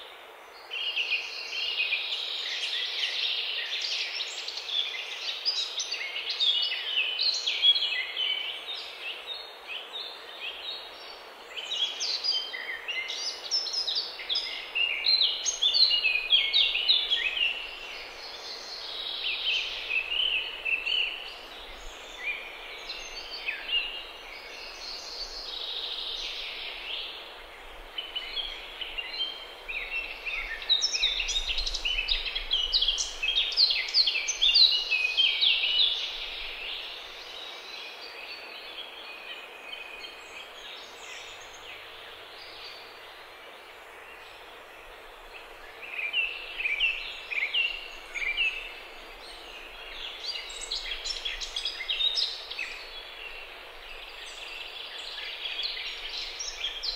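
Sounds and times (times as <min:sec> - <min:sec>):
faint background noise: 0:00.0 - 0:56.9
songbirds chirping: 0:00.0 - 0:56.9.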